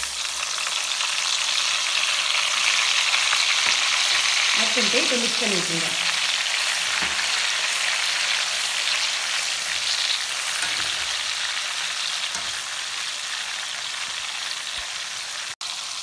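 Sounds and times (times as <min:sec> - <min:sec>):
slices deep-frying in oil: 0:00.0 - 0:16.0.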